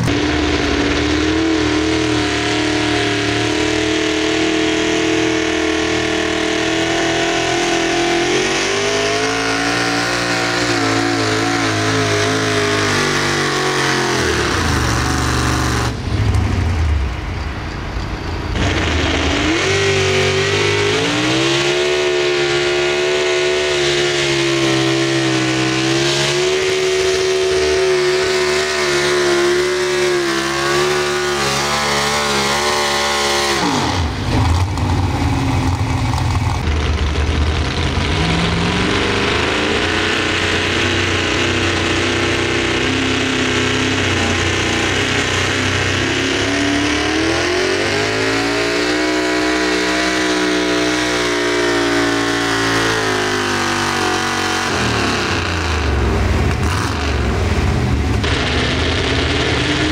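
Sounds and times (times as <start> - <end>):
racing tractor engine at full throttle: 0.0 - 59.9.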